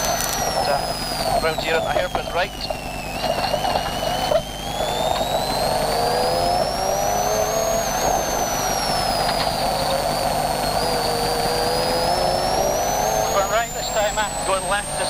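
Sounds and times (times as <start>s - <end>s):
car engine revving: 0.0s - 15.0s
high engine whine: 0.0s - 15.0s.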